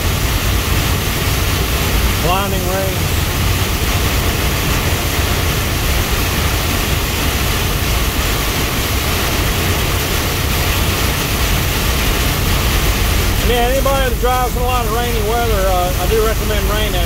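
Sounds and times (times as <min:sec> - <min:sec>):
heavy rain on truck windshield: 0:00.0 - 0:17.0
truck engine rumble: 0:00.0 - 0:17.0
tyres on wet road: 0:00.0 - 0:17.0.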